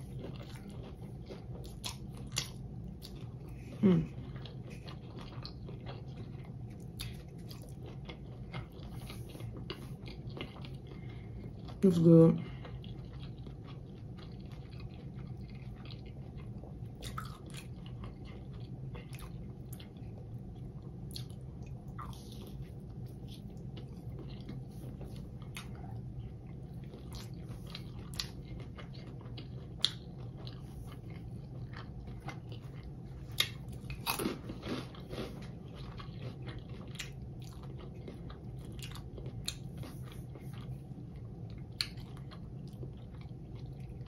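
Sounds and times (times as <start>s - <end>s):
crunchy food chewing: 0.0s - 11.8s, 12.5s - 44.0s.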